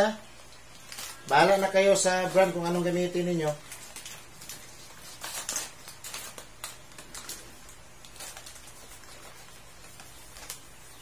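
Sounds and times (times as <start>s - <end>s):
plastic sachet crinkling: 0.4s - 11.0s.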